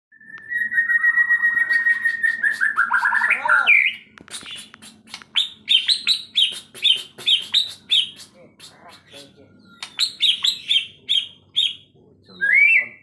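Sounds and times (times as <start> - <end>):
songbird whistling and chirping: 0.1 - 13.0.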